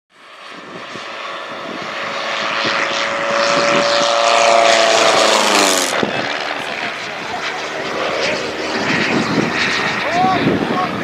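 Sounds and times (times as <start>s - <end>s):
model airplane engine droning: 0.1s - 11.0s.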